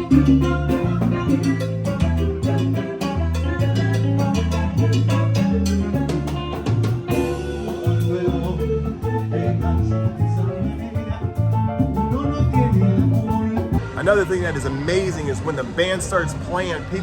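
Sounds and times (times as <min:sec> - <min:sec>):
band playing salsa music: 0:00.0 - 0:17.0.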